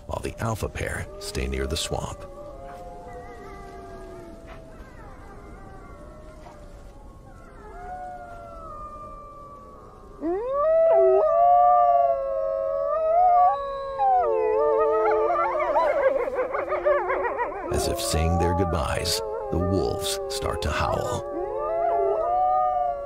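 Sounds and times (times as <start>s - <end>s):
wolves howling: 0.0s - 23.0s.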